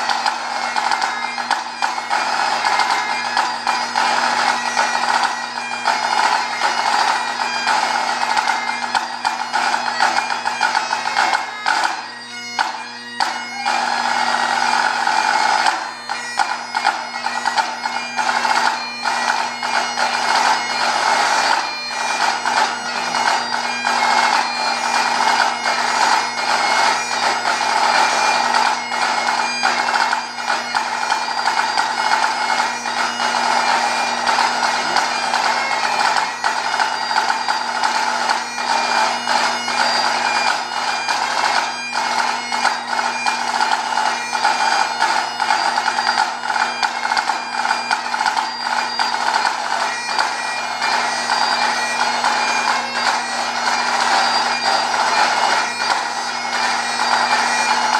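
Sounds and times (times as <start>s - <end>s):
bagpipe drones: 0.0s - 57.9s
bagpipe melody: 0.0s - 57.9s.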